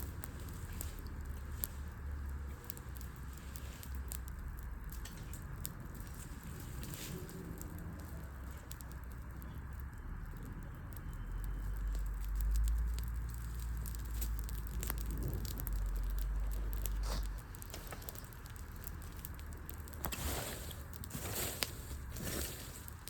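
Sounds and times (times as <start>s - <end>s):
low rumble: 0.0s - 22.9s
wood fire crackling: 0.0s - 23.0s.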